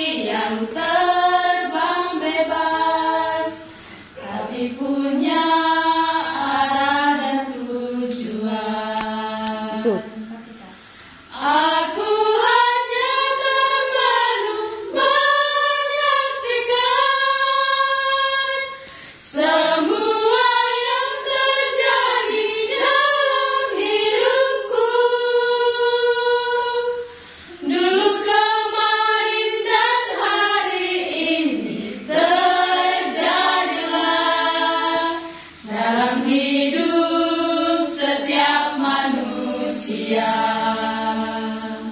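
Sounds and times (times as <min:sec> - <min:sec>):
women singing together: 0:00.0 - 0:41.9.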